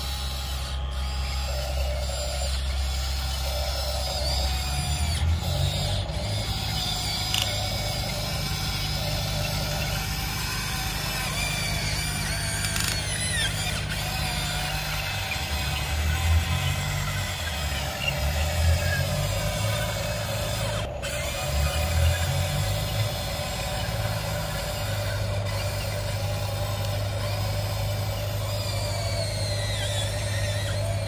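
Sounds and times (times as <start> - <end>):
steady low hum: 0.0 - 31.0
toy excavator motors whirring: 0.0 - 31.0.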